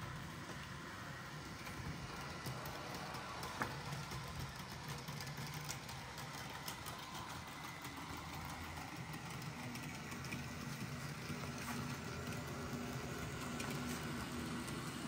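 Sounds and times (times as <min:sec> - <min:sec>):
light clicks of wheels: 0:00.0 - 0:15.0
model train motor humming: 0:00.0 - 0:15.0.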